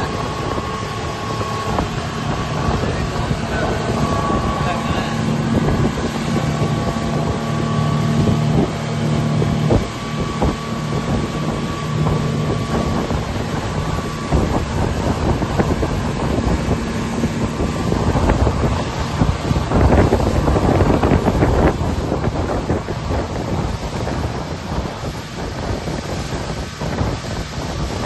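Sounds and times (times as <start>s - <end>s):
boat wake rushing: 0.0s - 28.0s
motorboat engine running: 0.0s - 28.0s
wind buffeting microphone: 0.0s - 28.0s.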